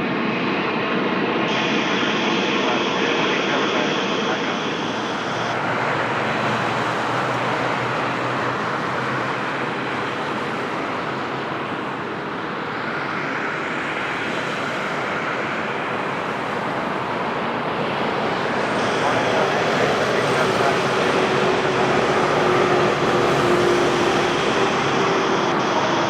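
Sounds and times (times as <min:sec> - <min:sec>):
jet airliner engines rushing: 0:00.0 - 0:26.0.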